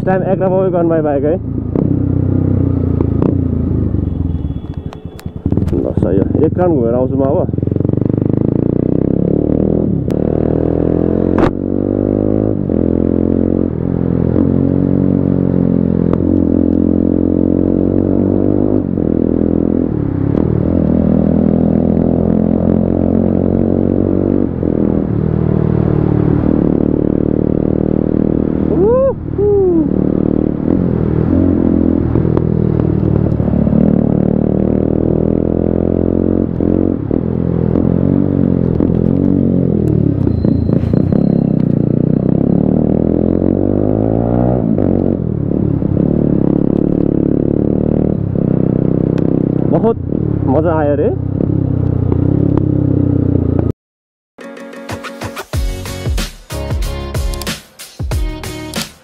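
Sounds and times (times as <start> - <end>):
motorcycle engine revving: 0.0 - 53.7.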